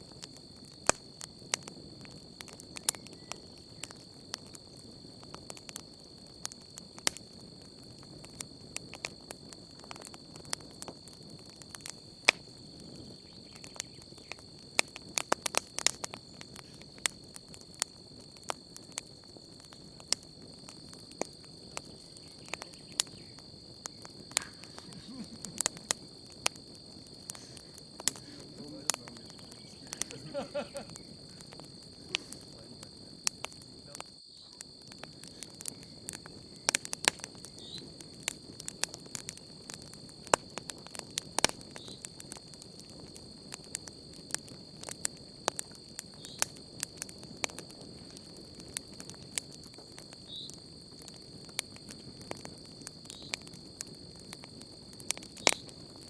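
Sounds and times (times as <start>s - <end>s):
campfire crackling and popping: 0.0s - 56.0s
crickets chirring: 0.0s - 56.0s
hiss of flame: 0.0s - 56.0s.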